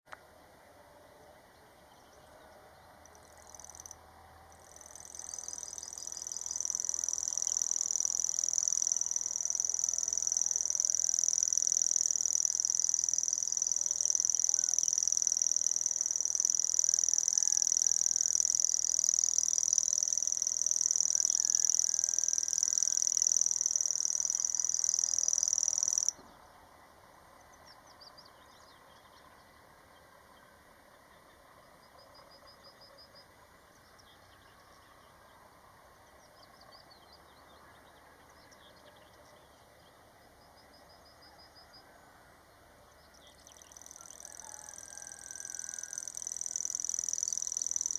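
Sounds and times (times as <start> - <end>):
cricket chirping: 2.8 - 26.4, 31.2 - 42.0, 42.9 - 47.9.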